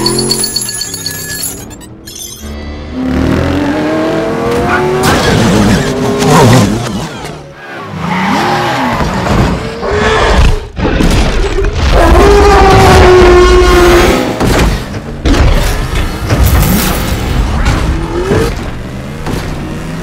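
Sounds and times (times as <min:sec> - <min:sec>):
car engines and tyres: 0:00.0 - 0:20.0.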